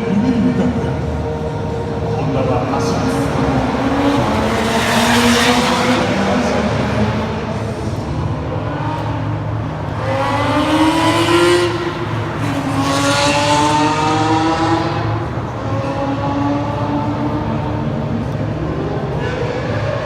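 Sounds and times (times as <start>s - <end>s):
supercar engine accelerating: 0.0s - 20.0s.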